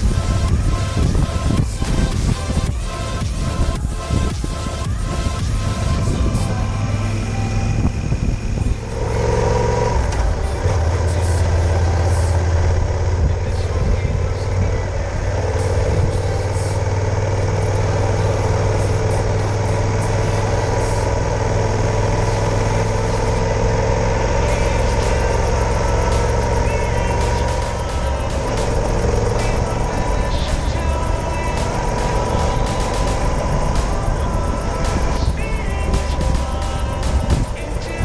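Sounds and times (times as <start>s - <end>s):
wind rush over microphone: 0.0s - 19.5s, 20.2s - 38.0s
motorcycle engine running: 0.0s - 38.0s.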